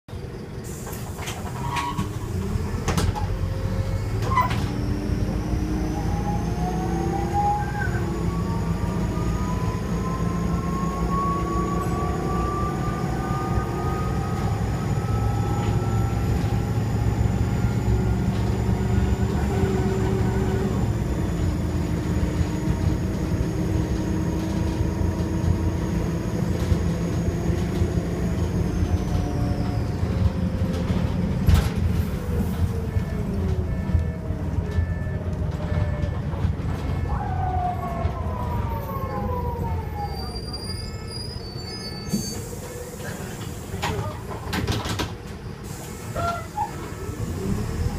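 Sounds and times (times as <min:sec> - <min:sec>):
bus diesel engine running: 0:00.1 - 0:47.9.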